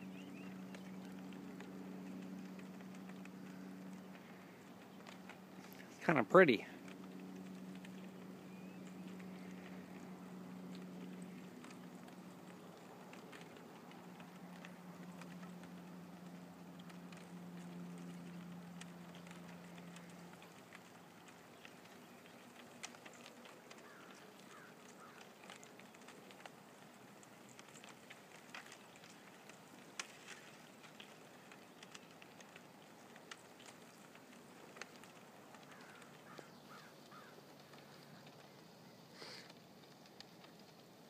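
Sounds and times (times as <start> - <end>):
ice floes crackling: 0.0 - 41.0.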